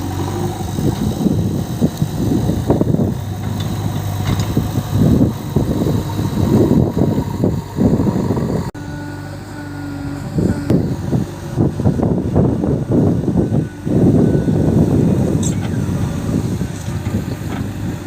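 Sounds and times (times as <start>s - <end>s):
diesel engine surging: 0.0s - 18.0s
steady engine hum: 0.0s - 18.0s.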